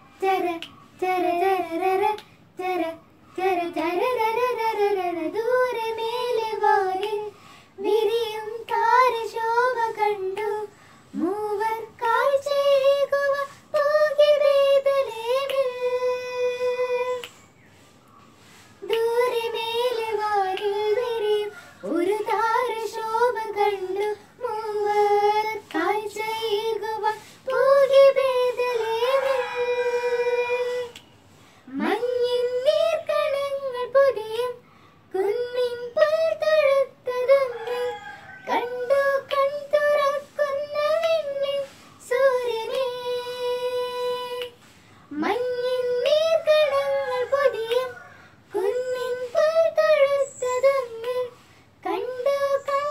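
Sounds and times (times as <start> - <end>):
child singing: 0.0 - 17.4, 18.8 - 31.0, 31.7 - 52.9.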